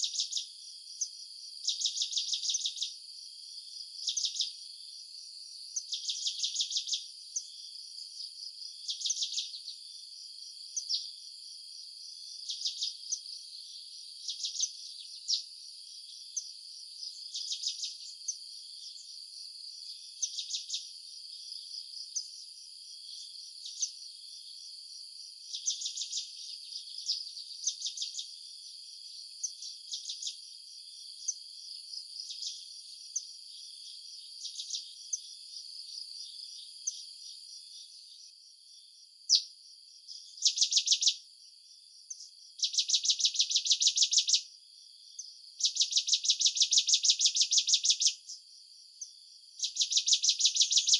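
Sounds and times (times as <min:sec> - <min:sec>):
high-pitched insect hum: 0:00.0 - 0:50.9
insects chirping trills: 0:00.0 - 0:50.9.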